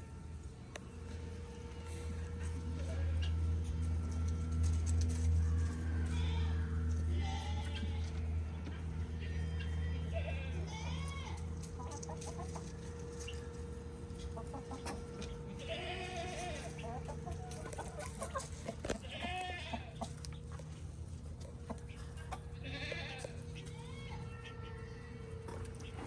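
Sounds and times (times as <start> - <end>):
steady hum: 0.0 - 26.0
drawn-out animal calls: 1.8 - 20.9, 21.5 - 26.0.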